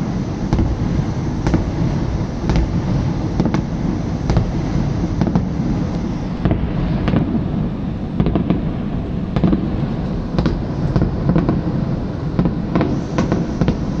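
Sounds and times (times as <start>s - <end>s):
fireworks bangs: 0.0s - 14.0s
steady low rumble: 0.0s - 14.0s.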